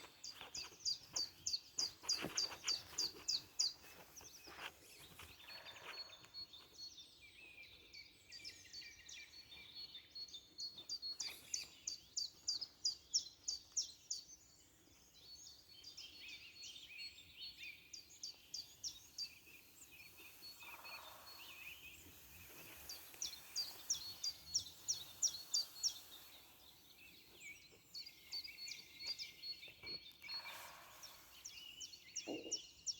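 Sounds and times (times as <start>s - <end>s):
songbirds twittering: 0.0s - 32.9s.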